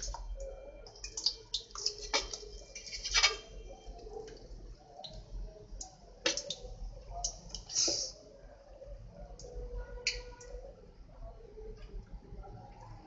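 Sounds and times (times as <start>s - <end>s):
batter crackling in hot oil: 0.0s - 13.0s.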